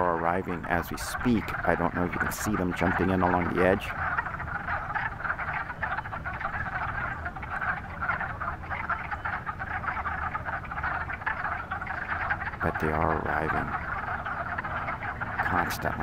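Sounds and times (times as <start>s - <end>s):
frog chorus: 0.0s - 16.0s.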